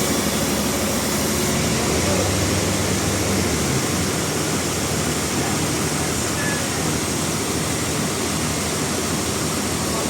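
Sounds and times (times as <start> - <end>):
sawmill machinery running: 0.0 - 10.0.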